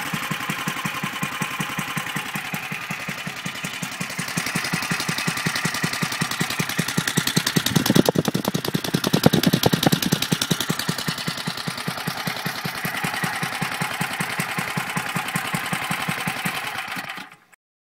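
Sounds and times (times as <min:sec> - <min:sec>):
small engine running: 0:00.0 - 0:17.6.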